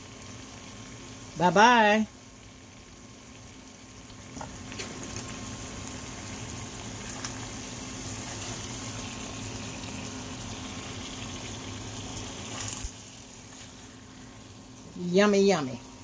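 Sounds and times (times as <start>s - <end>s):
meat sizzling in a skillet: 0.0s - 16.0s.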